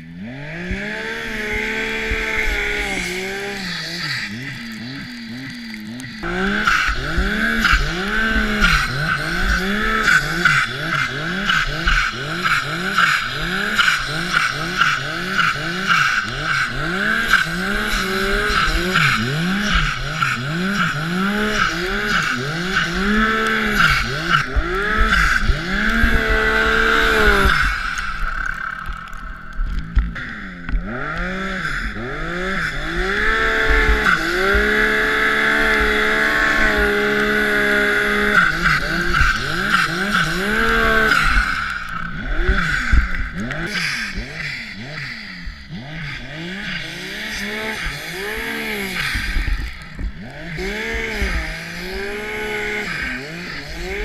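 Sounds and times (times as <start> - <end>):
snowmobile engine revving: 0.0 - 54.0
turbo whine: 0.0 - 54.0.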